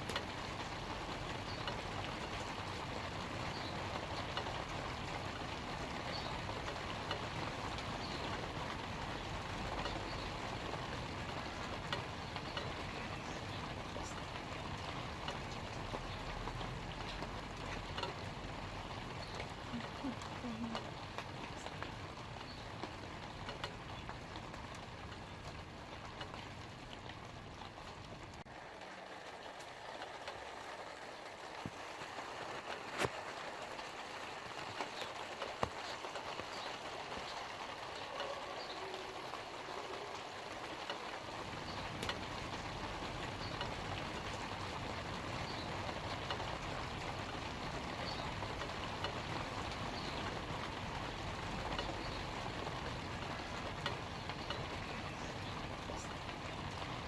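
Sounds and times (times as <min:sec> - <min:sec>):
light rain on leaves: 0:00.0 - 0:57.0.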